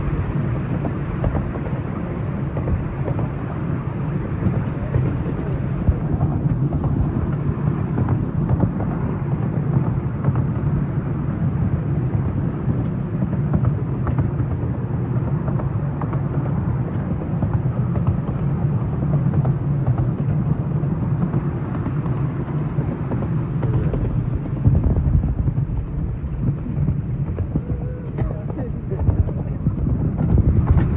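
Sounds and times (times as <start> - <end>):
train wheels rumbling on track: 0.0 - 30.9.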